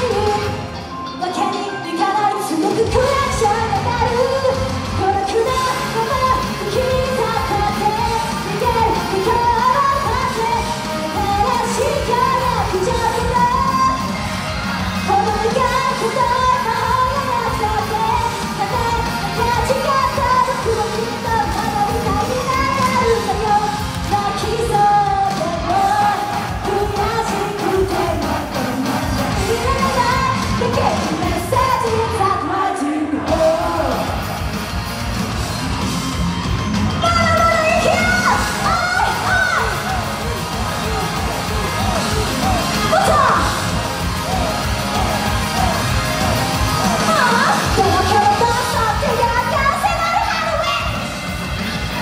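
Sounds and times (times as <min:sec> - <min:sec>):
pop song over loudspeakers: 0:00.0 - 0:52.0.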